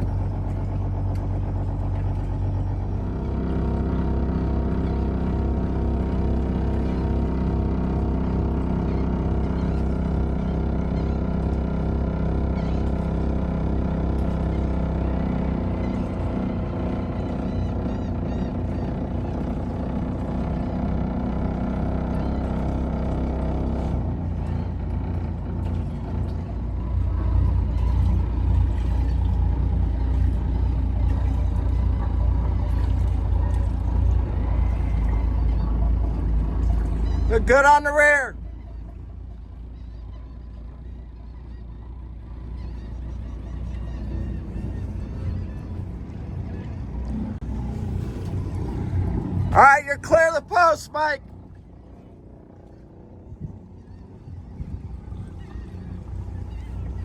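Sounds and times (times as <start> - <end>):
boat diesel engine running: 0.0 - 57.0.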